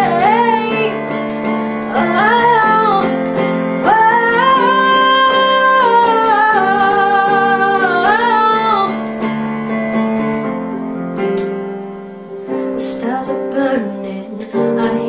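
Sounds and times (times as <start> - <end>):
guitar accompaniment: 0.0 - 15.0.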